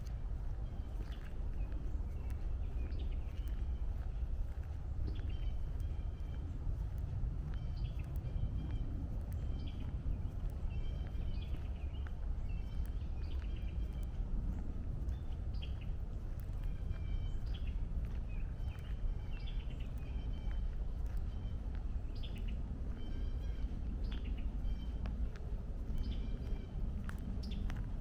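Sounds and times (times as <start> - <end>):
distant highway traffic rumble: 0.0 - 28.0
small birds chirping: 0.0 - 28.0.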